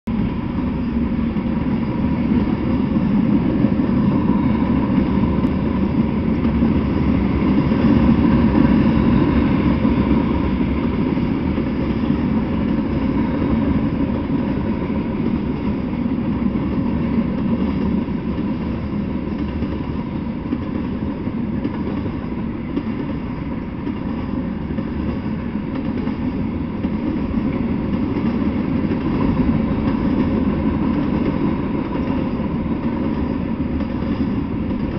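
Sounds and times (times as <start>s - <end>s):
steel wheels running on rails: 0.1s - 34.9s.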